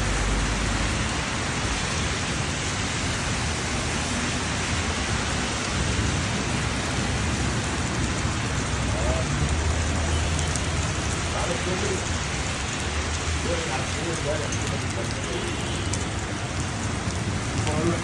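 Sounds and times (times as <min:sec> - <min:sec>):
rain hissing: 0:00.0 - 0:18.0.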